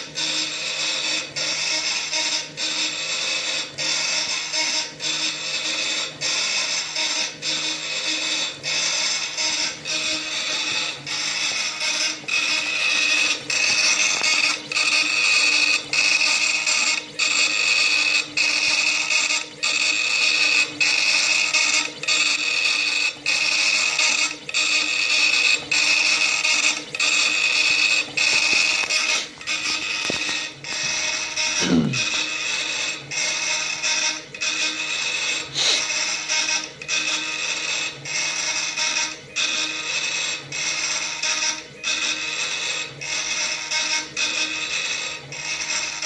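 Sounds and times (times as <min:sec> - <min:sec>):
stepper motors whining: 0:00.0 - 0:46.0.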